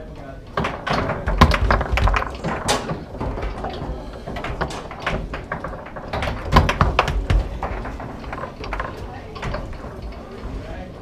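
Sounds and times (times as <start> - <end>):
rods clattering: 0.0 - 11.0
foosball knocks: 0.6 - 9.8.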